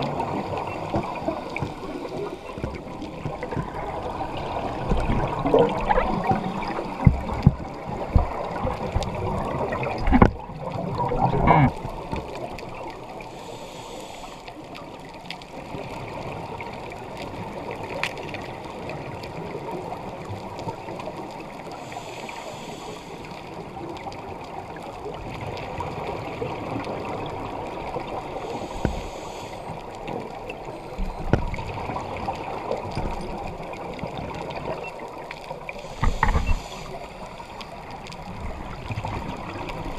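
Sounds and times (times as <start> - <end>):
muffled underwater water noise: 0.0 - 39.9
scuba regulator breathing and bubbles: 0.0 - 39.9.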